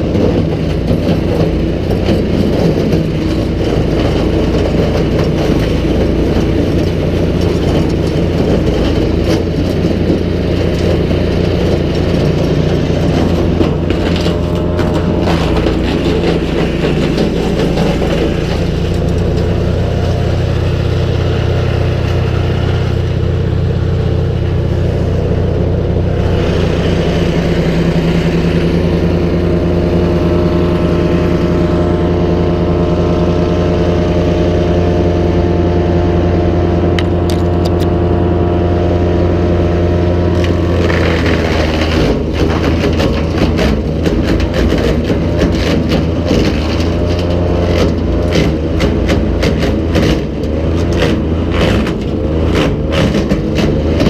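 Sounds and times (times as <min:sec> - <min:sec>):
wood chipper engine running: 0:00.0 - 0:54.0.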